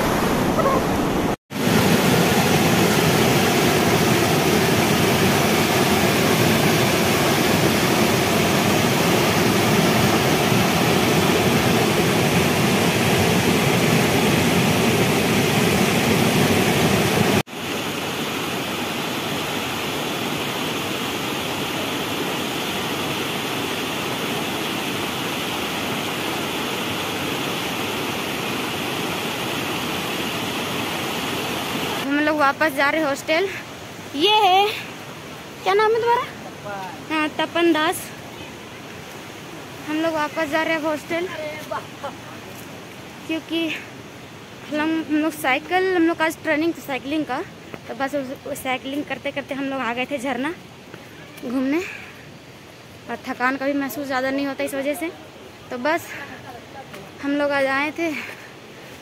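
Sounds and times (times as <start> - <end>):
waterfall rushing water: 0.0 - 59.0.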